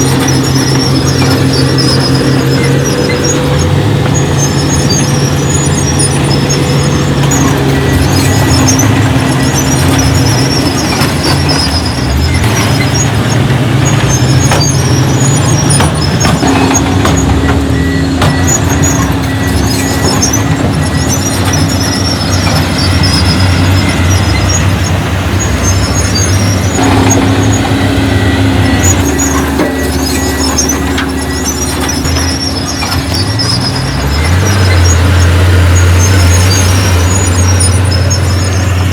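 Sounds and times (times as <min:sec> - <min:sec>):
diesel machinery engine drone: 0:00.0 - 0:38.9
high squeaking chirps: 0:00.0 - 0:38.9
metallic clanks: 0:00.0 - 0:38.9.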